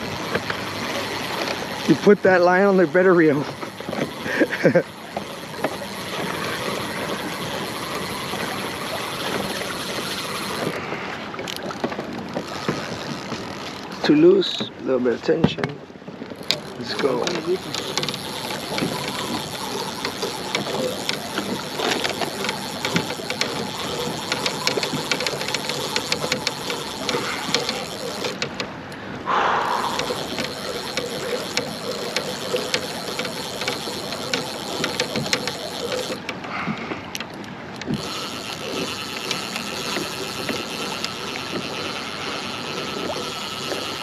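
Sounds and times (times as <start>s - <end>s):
fishing reel clicking: 0.0s - 14.0s, 16.2s - 28.7s, 29.4s - 44.0s.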